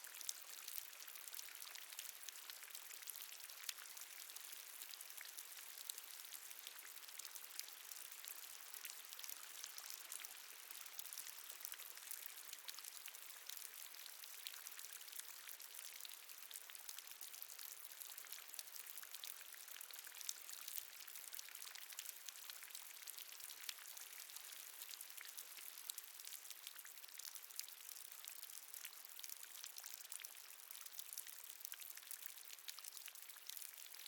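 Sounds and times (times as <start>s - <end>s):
water dripping in cave: 0.0s - 34.0s.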